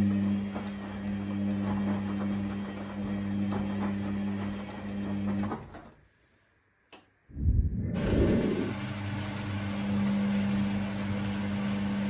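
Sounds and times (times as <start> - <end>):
washing machine motor hum: 0.0 - 5.8, 7.3 - 12.0.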